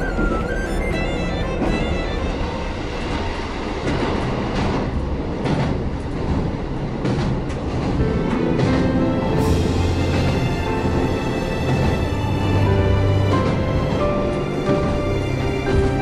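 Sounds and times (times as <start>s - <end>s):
train engine and wheels rumbling: 0.0s - 16.0s
wheels clacking over rail joints: 0.0s - 16.0s.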